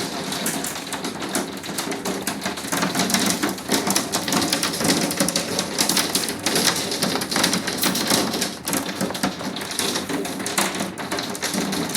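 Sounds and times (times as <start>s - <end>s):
hail pelting down: 0.0s - 11.9s.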